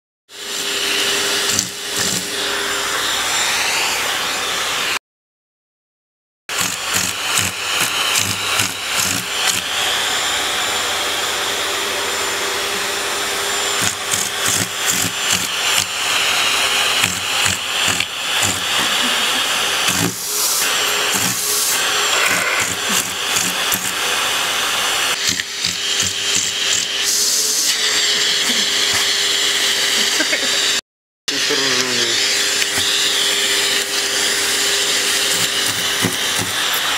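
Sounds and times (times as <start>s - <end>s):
vacuum cleaner suction: 0.3s - 5.0s, 6.5s - 36.9s.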